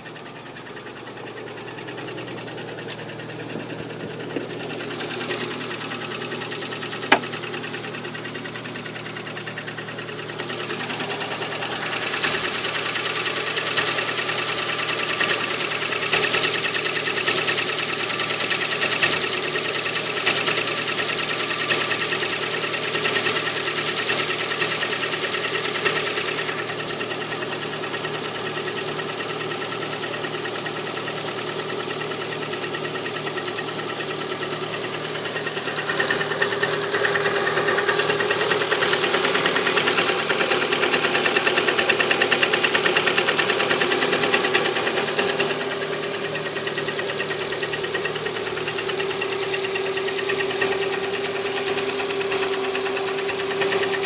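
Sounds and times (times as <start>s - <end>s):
car engine with metallic piston knock: 0.0s - 54.0s.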